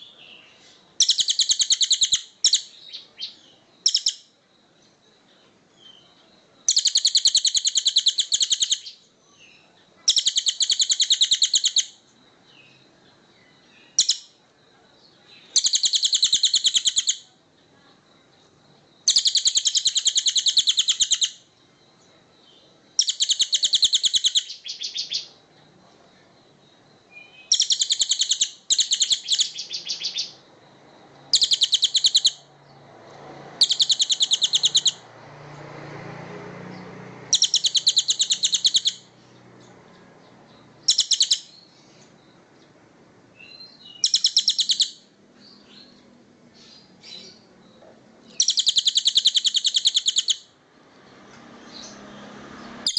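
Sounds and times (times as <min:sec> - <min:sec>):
songbird buzzy trills: 0:00.0 - 0:52.9.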